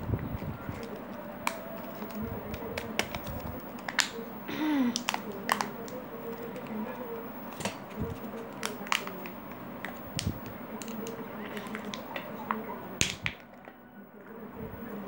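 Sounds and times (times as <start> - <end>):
faint steady hum: 0.0 - 15.0
plastic packaging crackling: 0.4 - 6.8, 7.5 - 13.5.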